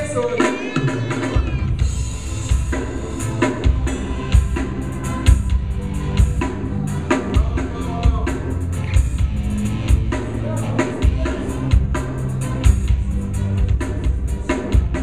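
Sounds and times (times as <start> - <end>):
live band music: 0.0 - 15.0
sustained bass notes: 1.5 - 15.0.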